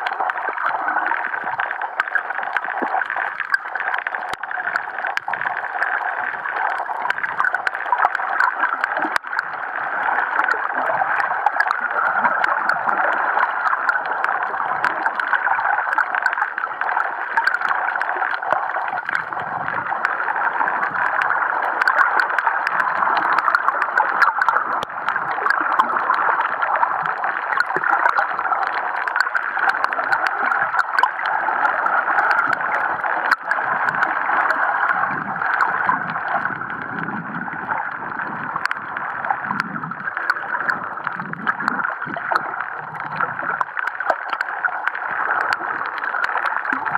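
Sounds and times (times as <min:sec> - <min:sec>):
muffled underwater water rushing: 0:00.0 - 0:46.9.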